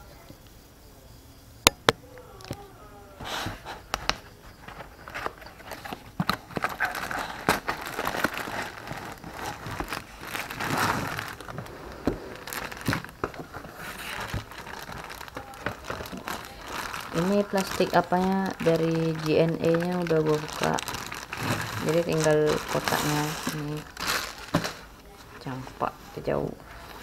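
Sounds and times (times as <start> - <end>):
cardboard rustling: 3.2 - 27.0
plastic crinkling: 3.2 - 27.0.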